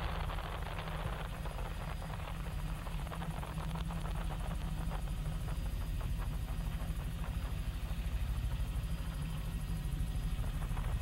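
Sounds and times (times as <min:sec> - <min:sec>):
helicopter rotor drone: 0:00.0 - 0:11.0.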